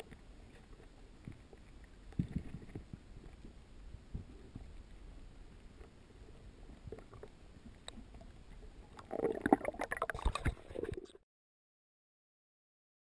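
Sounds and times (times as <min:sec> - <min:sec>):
knocks and sloshing underwater: 0:00.0 - 0:11.2.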